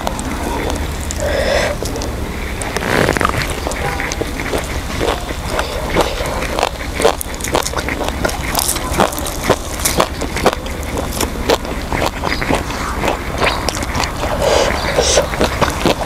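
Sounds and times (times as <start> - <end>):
chewing and crunching: 0.0 - 16.0
steady low hum: 0.0 - 16.0.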